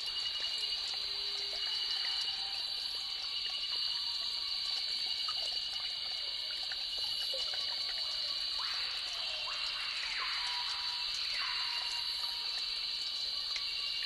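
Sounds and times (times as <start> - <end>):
water trickling over rocks: 0.0 - 14.0.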